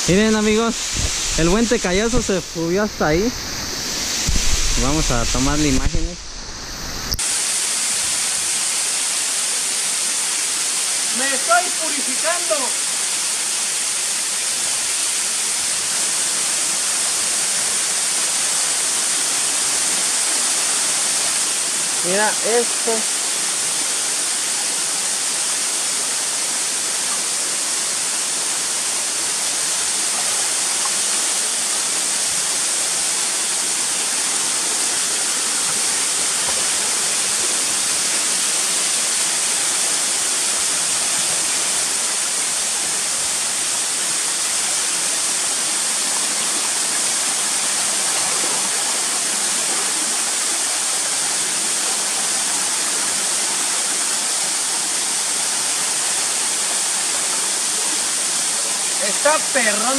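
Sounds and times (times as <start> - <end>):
waterfall splashing onto rocks: 0.0 - 6.2, 6.9 - 59.9.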